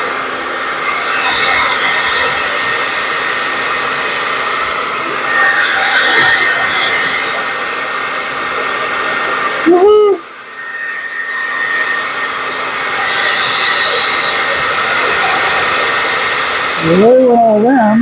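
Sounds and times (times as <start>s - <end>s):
hair dryer blowing: 0.0s - 18.0s.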